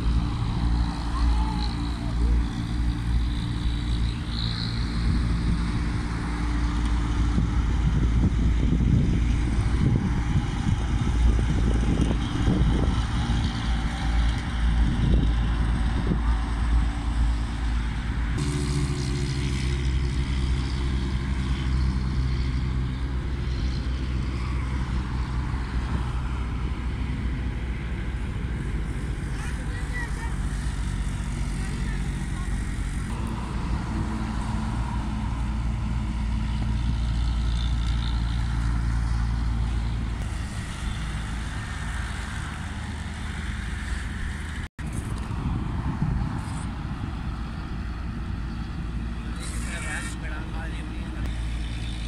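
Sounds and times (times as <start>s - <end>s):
vehicle engine rumbling: 0.0s - 52.0s.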